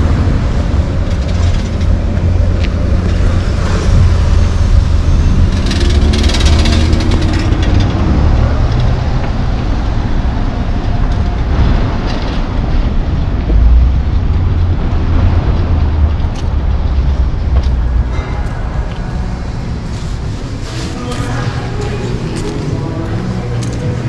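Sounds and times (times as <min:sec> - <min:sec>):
wind buffeting microphone: 0:00.0 - 0:20.7
road traffic noise: 0:00.0 - 0:24.0.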